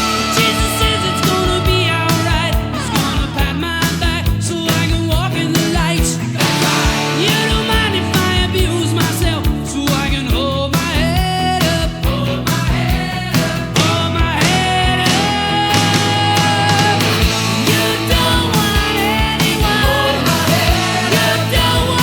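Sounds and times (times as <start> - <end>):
electric guitar: 0.0 - 22.0
rock music: 0.0 - 22.0
steady drum beat: 0.0 - 22.0.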